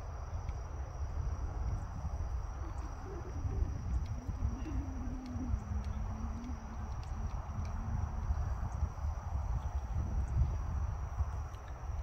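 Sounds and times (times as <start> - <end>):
crickets chirring: 0.0 - 12.0
faint low wavering hum: 0.0 - 12.0
wind rumble on microphone: 0.0 - 12.0.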